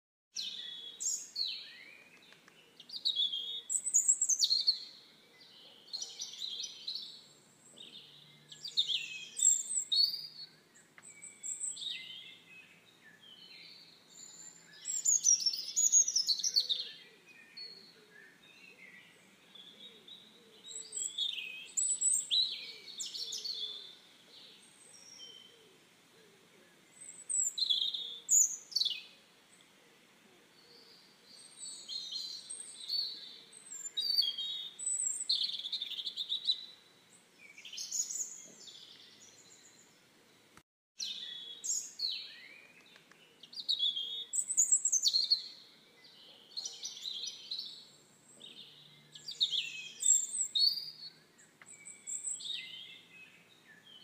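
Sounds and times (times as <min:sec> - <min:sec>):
faint outdoor background: 0:00.3 - 0:54.0
small songbirds singing: 0:00.3 - 0:54.0.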